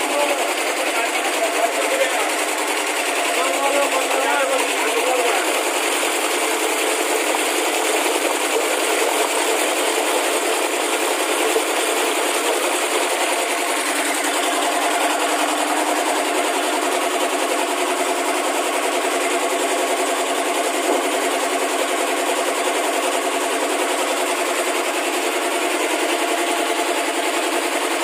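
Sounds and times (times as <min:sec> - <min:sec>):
mixer motor running: 0:00.0 - 0:28.0.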